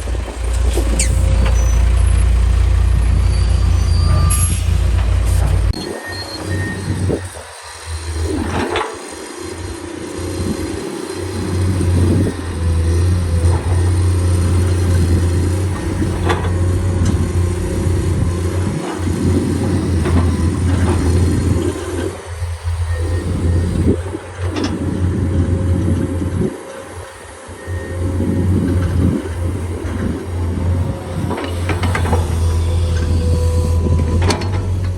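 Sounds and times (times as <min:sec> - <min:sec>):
heavy diesel engine droning: 0:00.0 - 0:34.9.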